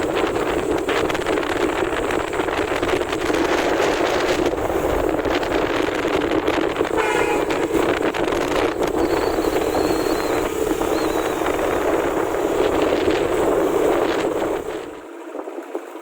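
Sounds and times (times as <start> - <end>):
motorcycle engine running: 0.0 - 15.0
wind buffeting microphone: 0.0 - 15.7.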